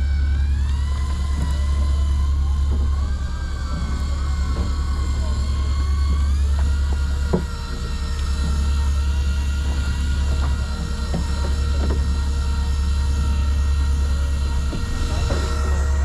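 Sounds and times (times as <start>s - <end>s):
boat engine droning: 0.0s - 16.0s
steady engine whine: 0.0s - 16.0s.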